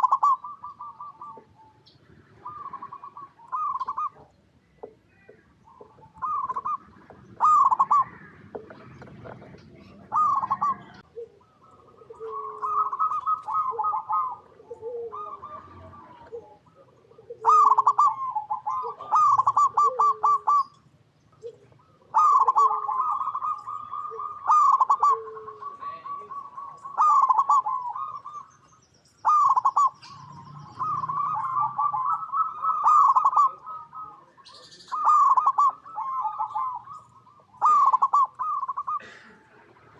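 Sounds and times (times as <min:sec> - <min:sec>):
small birds chirping: 0:00.0 - 0:39.1
dove staccato cooing: 0:00.0 - 0:39.9.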